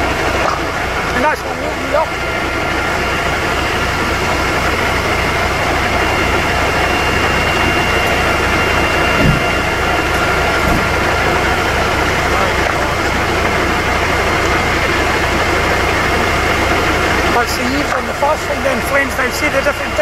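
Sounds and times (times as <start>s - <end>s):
faint high whine: 0.0s - 20.0s
pulsing low rumble: 0.0s - 20.0s
pump engine running: 0.0s - 20.0s.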